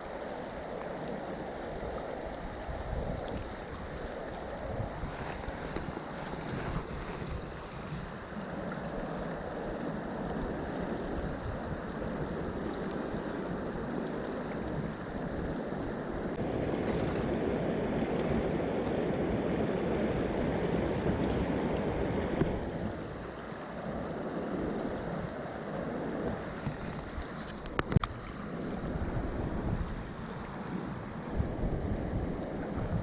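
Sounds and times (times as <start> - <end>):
stream rushing over rocks: 0.0 - 33.0.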